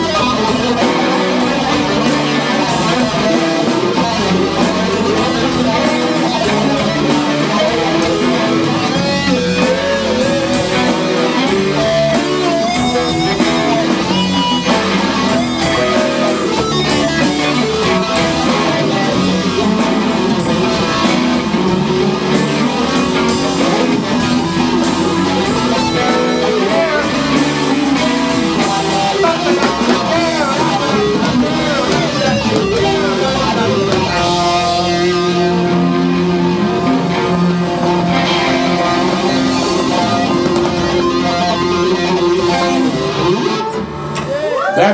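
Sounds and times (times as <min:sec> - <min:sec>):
bass guitar: 0:00.0 - 0:44.9
drum kit: 0:00.0 - 0:44.9
electric guitars: 0:00.0 - 0:44.9.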